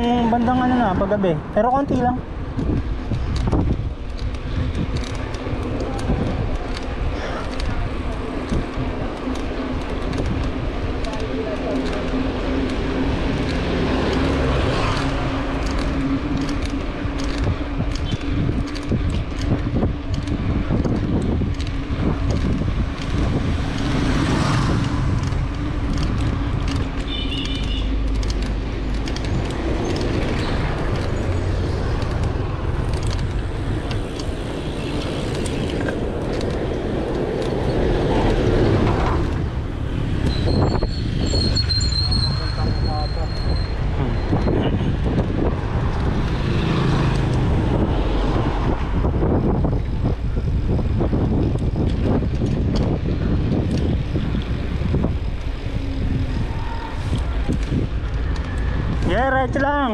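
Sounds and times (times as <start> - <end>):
steady engine hum: 0.0 - 59.9
vehicles passing: 0.0 - 59.9
wind buffeting microphone: 0.0 - 59.9.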